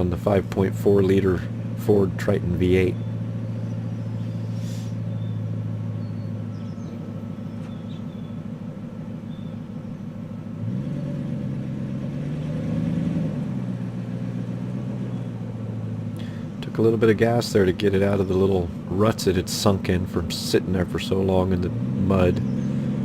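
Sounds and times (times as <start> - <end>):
engine exhaust idling and revving: 0.0 - 23.0.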